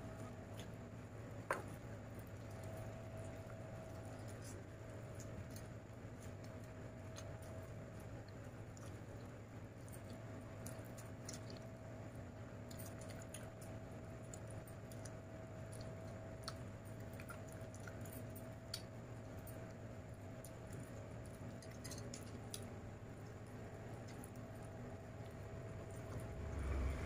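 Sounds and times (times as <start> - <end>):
low hum: 0.0 - 27.0
chewing: 1.6 - 27.0.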